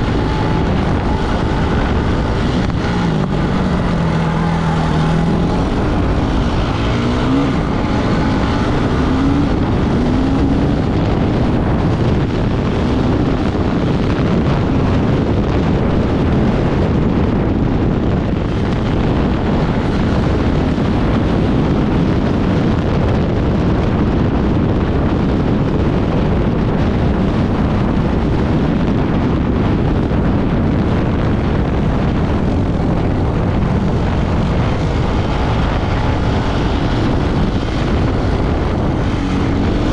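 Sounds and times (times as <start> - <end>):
off-road vehicle engine under load: 0.0 - 39.9
wind buffeting microphone: 0.0 - 39.9.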